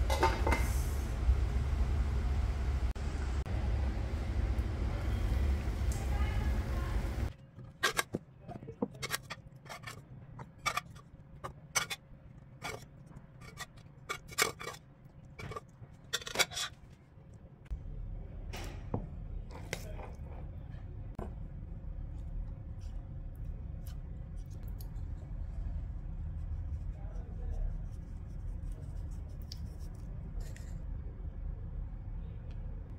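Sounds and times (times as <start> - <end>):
low steady hum: 0.0 - 32.9.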